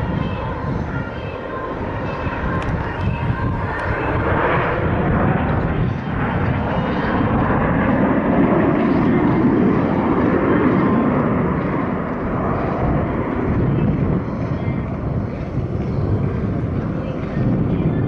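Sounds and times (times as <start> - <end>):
jet engines droning overhead: 0.0 - 18.0.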